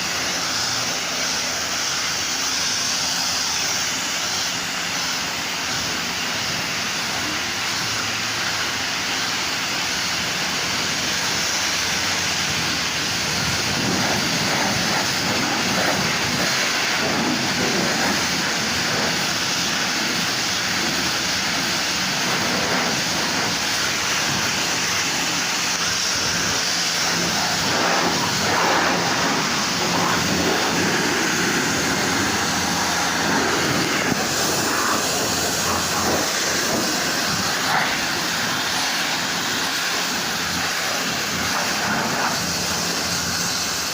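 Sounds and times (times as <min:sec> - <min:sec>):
car wash machinery: 0:00.0 - 0:43.9
car wash water spray: 0:00.0 - 0:43.9.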